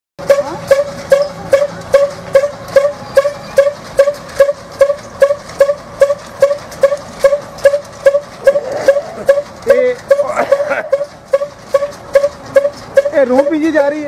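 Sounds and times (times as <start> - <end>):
stationary engine popping: 0.2 - 14.0.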